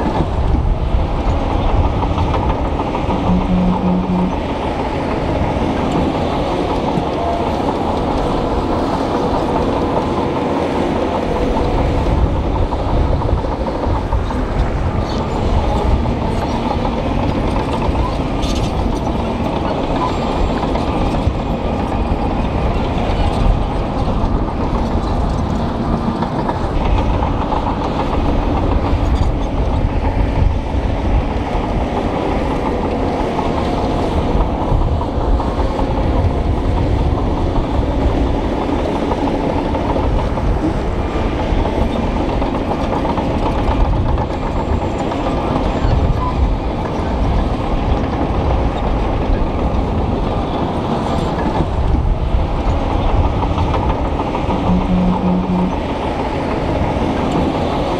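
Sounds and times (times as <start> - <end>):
bulldozer diesel engine: 0.0 - 57.9
steel tracks clattering: 0.0 - 57.9.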